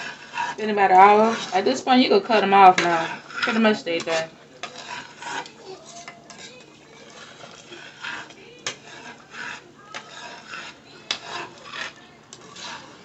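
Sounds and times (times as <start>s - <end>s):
spoon stirring stew in a pot: 0.0s - 13.0s.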